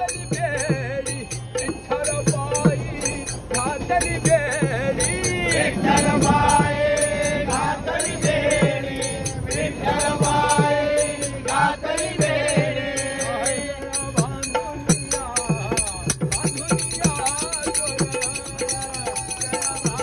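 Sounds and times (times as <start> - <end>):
men singing together: 0.0 - 20.0.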